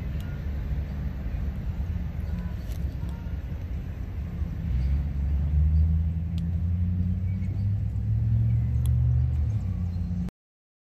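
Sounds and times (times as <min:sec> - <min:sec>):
road vehicle engine rumble: 0:00.0 - 0:10.3.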